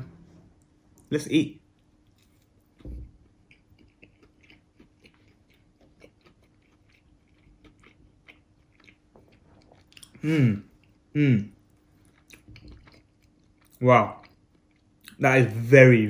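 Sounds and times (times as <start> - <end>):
person chewing: 1.8 - 15.2.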